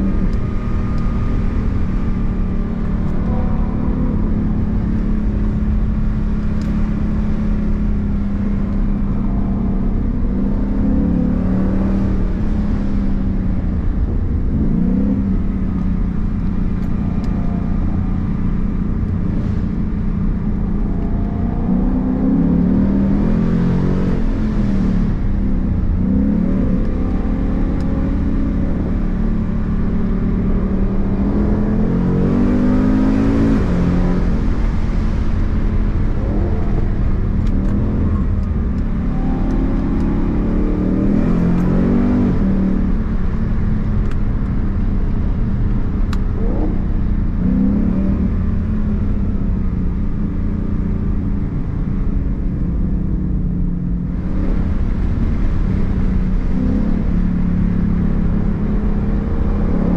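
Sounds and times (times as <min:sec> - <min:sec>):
car engine accelerating: 0:00.0 - 0:59.9
road and tyre rumble: 0:00.0 - 0:59.9.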